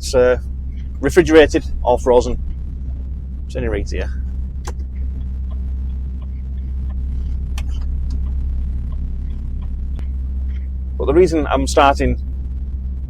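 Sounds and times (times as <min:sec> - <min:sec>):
lorry engine hum and rumble: 0:00.0 - 0:13.0.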